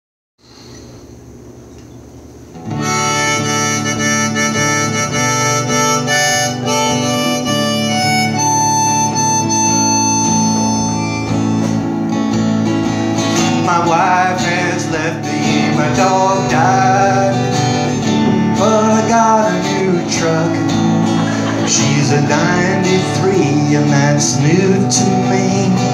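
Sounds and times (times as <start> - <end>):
acoustic guitar: 2.5 - 25.9
harmonica playing: 2.6 - 25.9.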